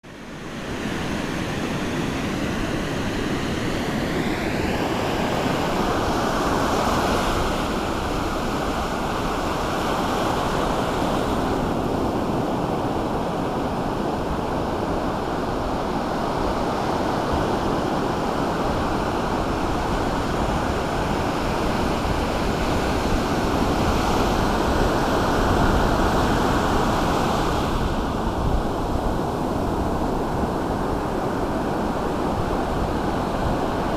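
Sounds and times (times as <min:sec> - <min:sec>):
ocean surf washing: 0:00.1 - 0:33.9.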